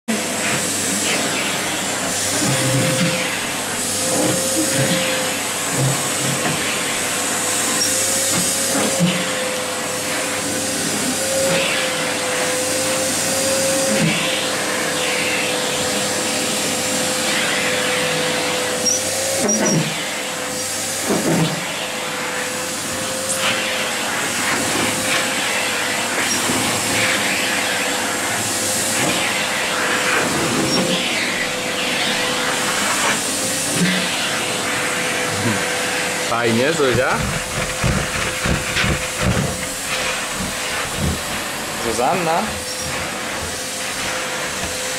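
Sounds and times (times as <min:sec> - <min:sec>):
vacuum cleaner running: 0:00.1 - 0:44.9.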